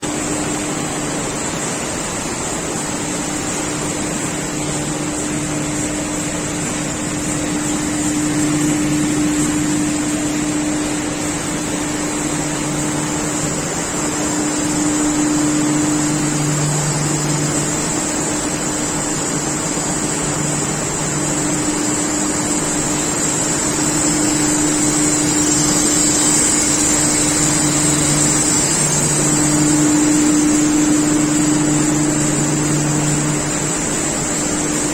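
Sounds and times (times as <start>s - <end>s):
washing machine humming: 0.0s - 34.9s.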